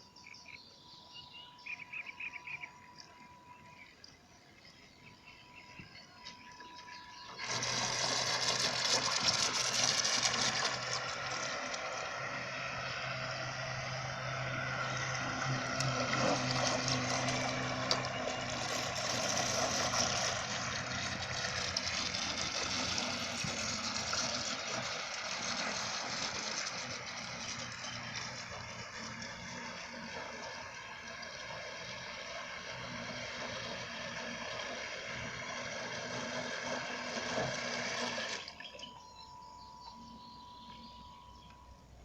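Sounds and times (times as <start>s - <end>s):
low hum: 0.0s - 42.0s
boat motor and water hiss: 1.4s - 42.0s.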